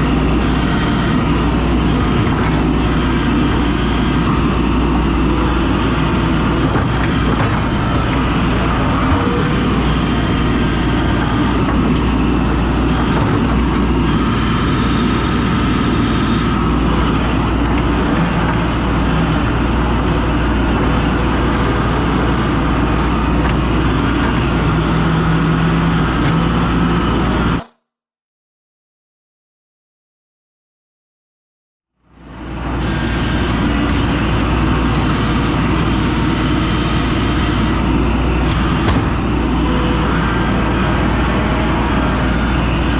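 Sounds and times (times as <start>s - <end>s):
skid steer engine running: 0.0s - 27.6s, 32.1s - 42.9s.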